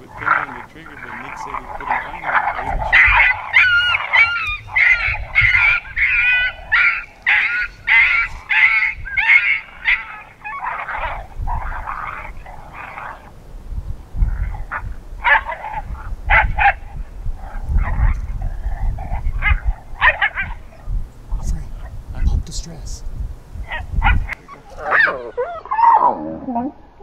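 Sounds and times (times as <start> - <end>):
electronic coyote pup yelps: 0.0 - 13.3, 14.2 - 20.7, 23.6 - 26.8
low wind rumble: 0.0 - 27.0.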